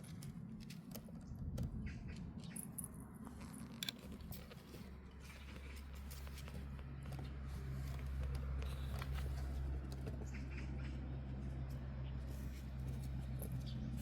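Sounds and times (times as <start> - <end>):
kittens scuffling taps and scratches: 0.0 - 14.0.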